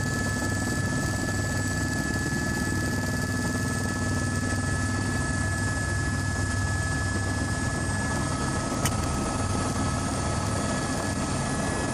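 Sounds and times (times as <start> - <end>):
helicopter rumble: 0.0 - 11.9.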